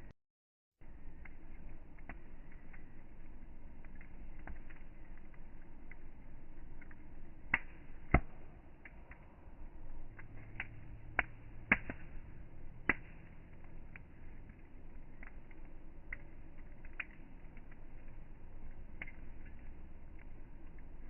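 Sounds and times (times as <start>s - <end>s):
campfire crackling: 0.8s - 21.0s
low hum of flames: 0.8s - 21.0s
sharp pops of fire: 1.1s - 21.0s.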